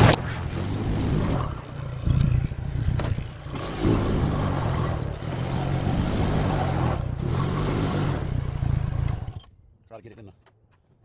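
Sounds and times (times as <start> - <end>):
atv engine droning: 0.0 - 9.6.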